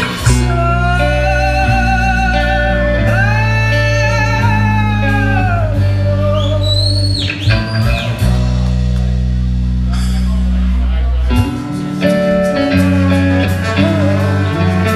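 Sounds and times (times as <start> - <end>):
live blues band playing: 0.0 - 14.9.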